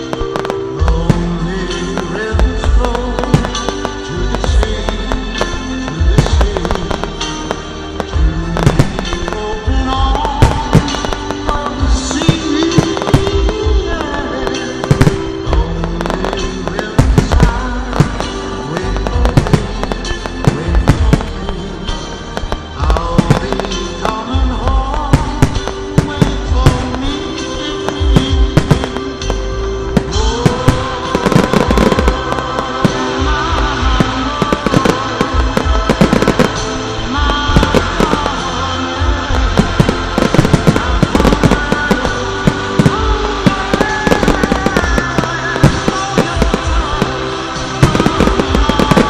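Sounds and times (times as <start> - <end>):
fireworks bangs: 0.0 - 49.0
music with held notes: 0.0 - 49.0.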